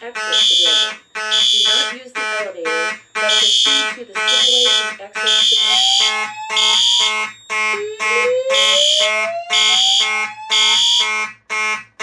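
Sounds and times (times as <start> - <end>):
fire alarm horn blasts: 0.0 - 12.0
mechanical fire alarm horn pulsing: 0.0 - 12.0
slow-whoop alarm tone: 0.2 - 12.0.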